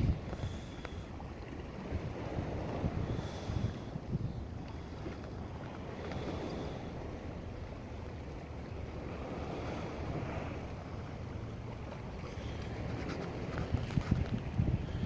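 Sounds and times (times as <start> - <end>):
gusty wind on microphone: 0.0 - 15.0
lake water lapping: 0.0 - 15.0.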